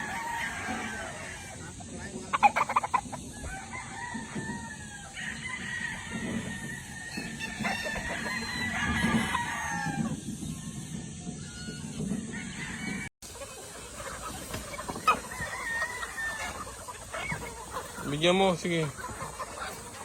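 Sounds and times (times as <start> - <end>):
hens clucking: 0.0 - 20.0
roosters crowing: 0.0 - 20.0.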